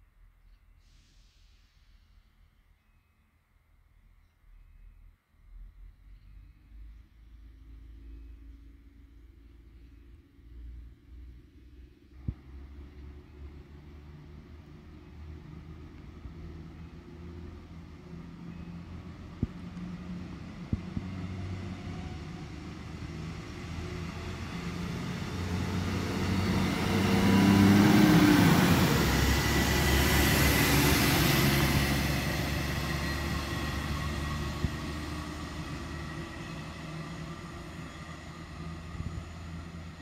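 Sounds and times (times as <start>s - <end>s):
diesel railcar passing: 6.2s - 40.0s.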